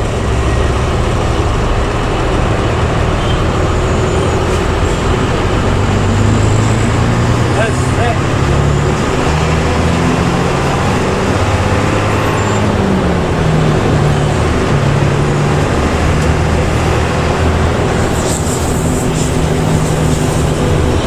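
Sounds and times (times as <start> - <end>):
bus engine running: 0.0 - 21.0
road noise: 0.0 - 21.0.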